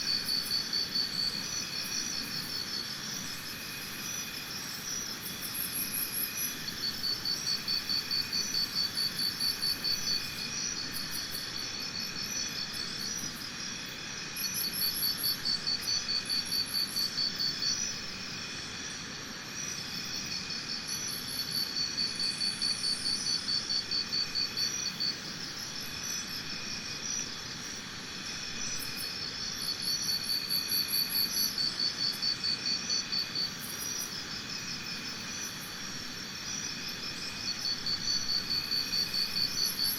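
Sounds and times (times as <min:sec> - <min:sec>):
high-pitched insect chorus: 0:00.0 - 0:39.9
insects trilling in pulsed bouts: 0:00.0 - 0:39.9.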